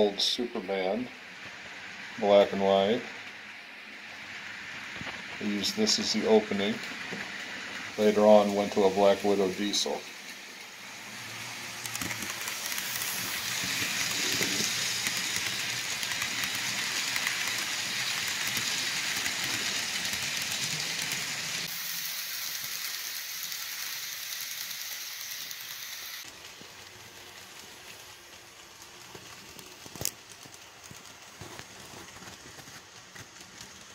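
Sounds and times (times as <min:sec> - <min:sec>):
model steam train rushing hiss: 0:00.0 - 0:28.9.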